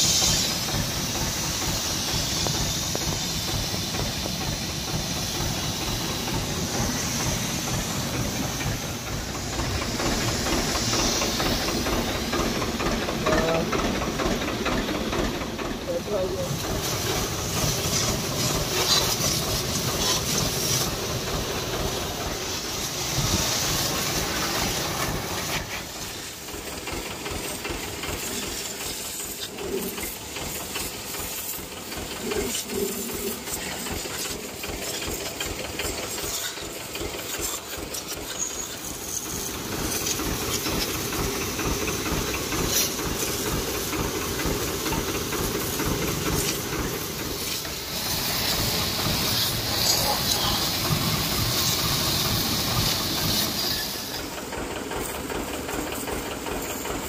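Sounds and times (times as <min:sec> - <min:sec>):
pressure washer jet hissing: 0:00.0 - 0:57.0.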